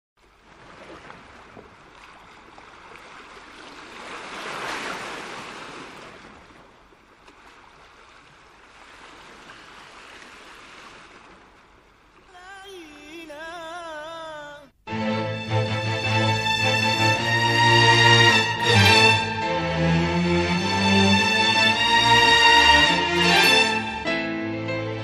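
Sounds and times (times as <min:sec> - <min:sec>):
sea waves washing in: 0:00.2 - 0:25.0.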